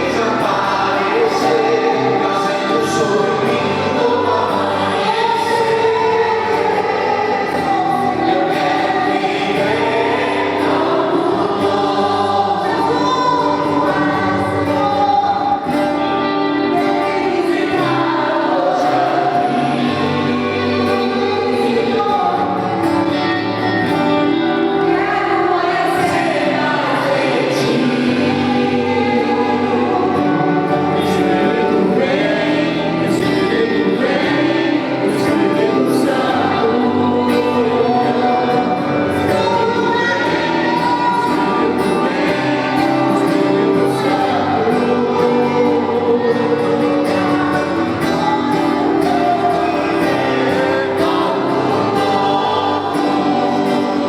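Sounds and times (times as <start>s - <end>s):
congregation singing worship song: 0.0s - 54.0s.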